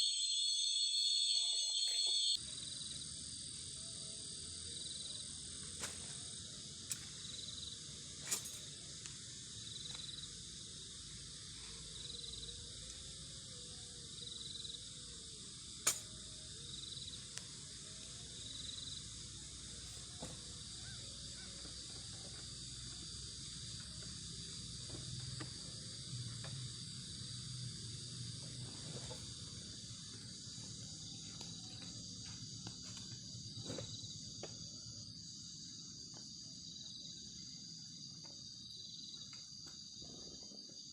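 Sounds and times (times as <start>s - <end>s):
insects trilling: 0.0s - 40.9s
repeating insect chirp: 0.0s - 40.9s.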